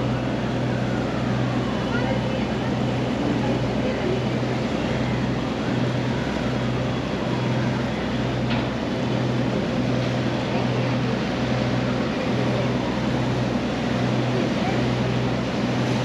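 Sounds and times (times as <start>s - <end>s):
ferry engine droning hum: 0.0s - 16.0s
water wash: 0.0s - 16.0s.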